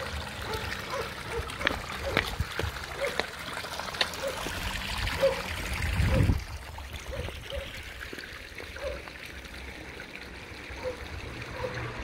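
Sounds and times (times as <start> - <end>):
water splashing into fountain: 0.0 - 12.0.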